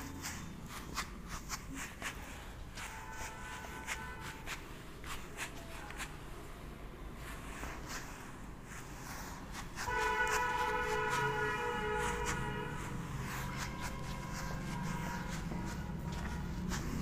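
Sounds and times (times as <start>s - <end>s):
eraser rubbing on whiteboard: 0.0s - 17.0s.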